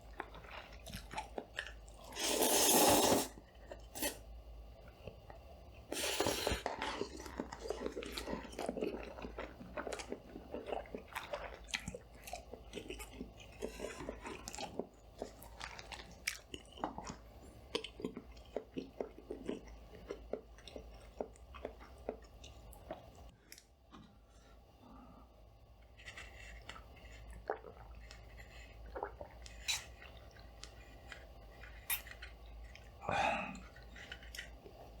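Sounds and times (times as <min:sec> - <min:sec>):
chewing and mouth clicks: 0:00.0 - 0:02.3, 0:04.8 - 0:24.1, 0:25.9 - 0:35.0.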